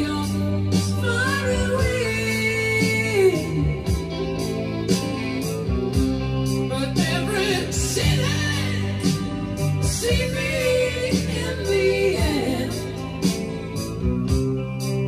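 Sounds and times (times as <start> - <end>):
person singing: 0.0 - 4.9, 6.6 - 14.1
guitar: 0.0 - 15.0.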